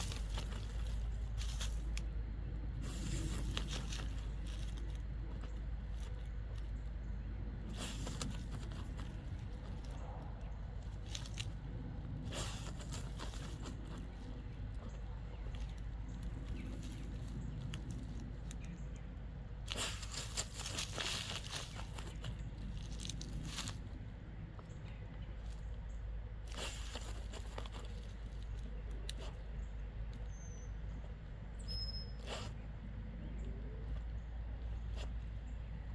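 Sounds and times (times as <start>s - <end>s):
dog scratching in dirt: 0.0s - 35.9s.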